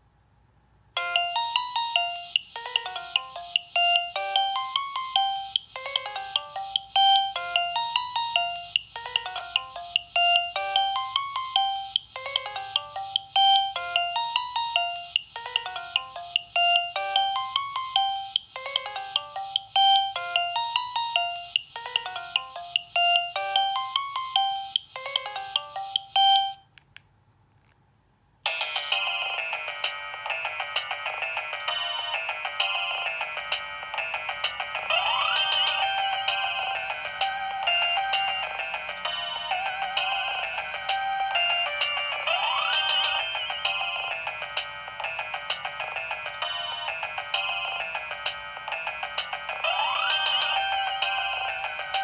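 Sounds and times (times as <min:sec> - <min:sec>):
mobile phone ringtone melody: 0:01.0 - 0:26.6, 0:28.5 - 0:52.0.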